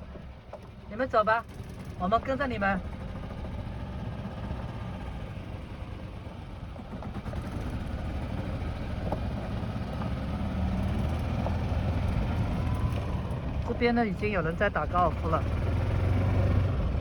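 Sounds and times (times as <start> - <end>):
golf cart rumbling: 0.0 - 17.0.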